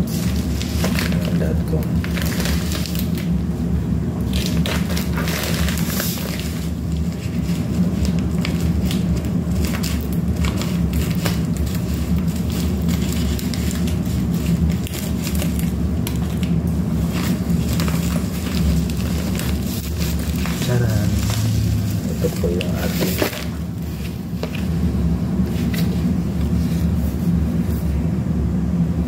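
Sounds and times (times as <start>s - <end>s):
steady low hum: 0.0s - 29.0s
plastic mailer bag crinkling: 0.1s - 3.5s, 4.2s - 24.8s.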